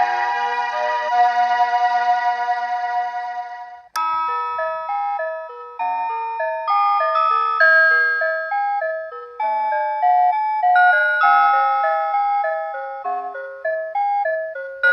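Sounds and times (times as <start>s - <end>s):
alarm clock chiming melody: 0.0s - 14.9s.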